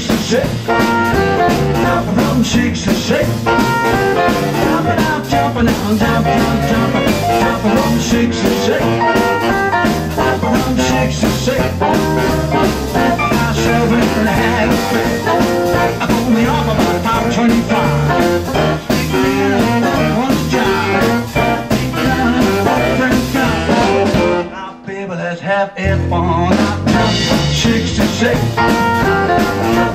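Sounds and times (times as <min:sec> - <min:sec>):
drums: 0:00.0 - 0:24.8, 0:25.8 - 0:29.9
electric guitar: 0:00.0 - 0:24.8, 0:26.0 - 0:29.9
upright bass: 0:00.0 - 0:24.8, 0:25.8 - 0:29.9
saxophone: 0:00.3 - 0:24.6, 0:26.9 - 0:29.9.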